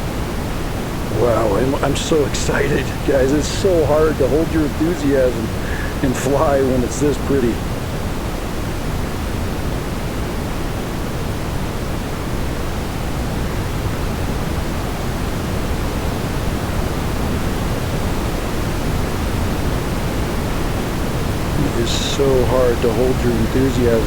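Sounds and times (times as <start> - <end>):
steady rushing outdoor noise: 0.0 - 24.0.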